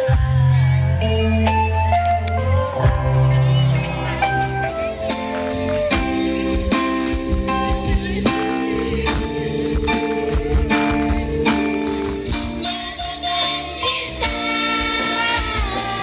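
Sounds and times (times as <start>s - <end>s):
loud music through sound system: 0.0s - 16.0s.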